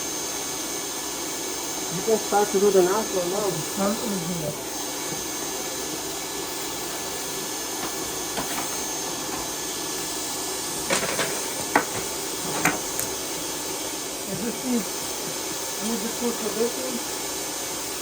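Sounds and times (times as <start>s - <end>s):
vacuum running: 0.0s - 18.0s.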